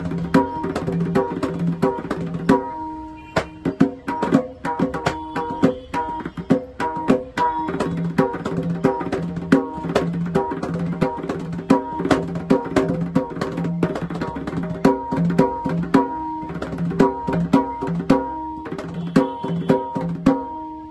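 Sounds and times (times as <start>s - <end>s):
drum strokes with ringing treble: 0.0s - 20.9s.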